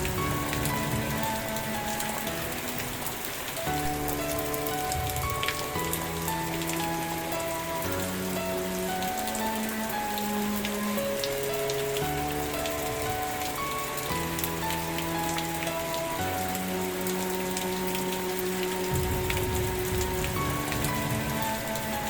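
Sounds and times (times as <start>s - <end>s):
sharp taps of raindrops: 0.0s - 22.0s
soft background music: 0.0s - 22.0s
steady rain falling: 0.0s - 22.0s.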